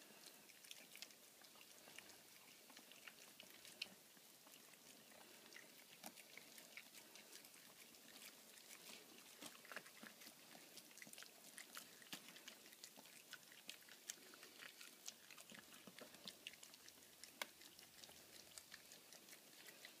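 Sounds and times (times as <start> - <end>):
dogs chewing and crunching: 0.0 - 20.0.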